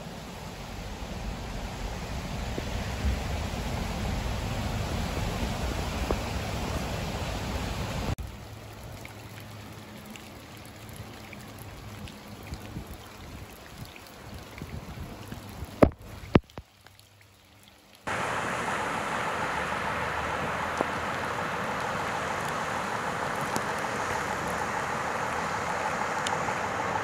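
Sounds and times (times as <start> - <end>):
quiet water sounds: 0.0 - 27.0
steady rain hiss: 0.0 - 27.0.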